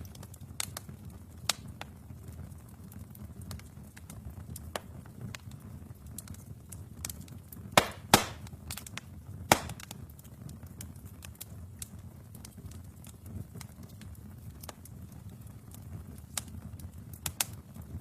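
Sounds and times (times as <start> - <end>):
fire crackling: 0.0 - 18.0
low rumble of flames: 0.0 - 18.0.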